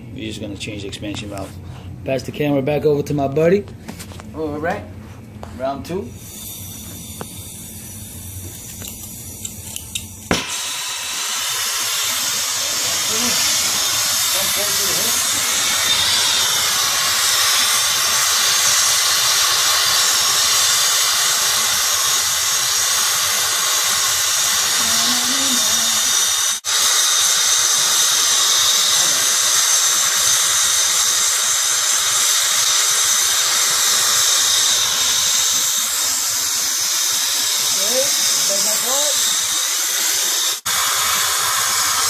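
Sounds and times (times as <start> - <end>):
brazing torch hissing: 5.9 - 42.0.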